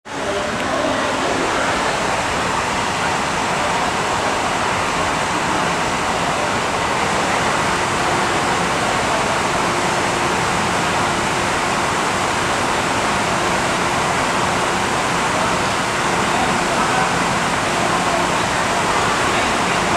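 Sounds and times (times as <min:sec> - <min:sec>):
station bustle: 0:00.0 - 0:19.9
ventilation rushing: 0:00.1 - 0:19.9.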